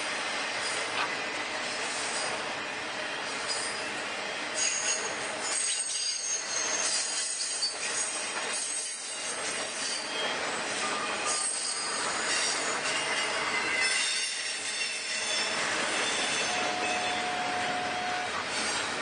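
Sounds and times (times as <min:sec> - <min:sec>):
freight train rumble: 0:00.0 - 0:19.0
train wheels squealing on rails: 0:00.0 - 0:19.0
low steady wheel squeal: 0:03.0 - 0:19.0.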